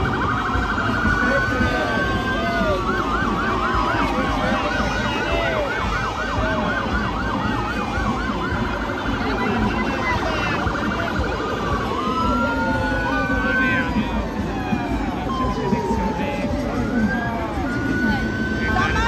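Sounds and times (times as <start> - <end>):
siren wail gliding down: 0.0 - 19.0
siren yelp and warble: 0.0 - 19.0.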